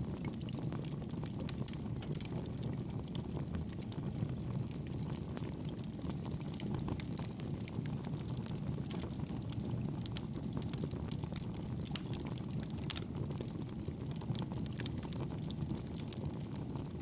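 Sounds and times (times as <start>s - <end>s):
fire burning in fireplace: 0.0s - 17.0s
small crackles and pops: 0.0s - 17.0s.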